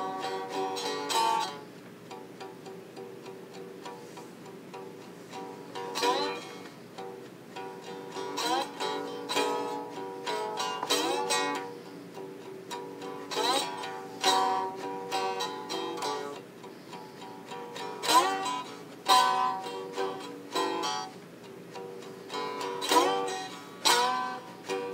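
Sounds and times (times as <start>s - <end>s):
slide string instrument plucked: 0.0s - 24.9s.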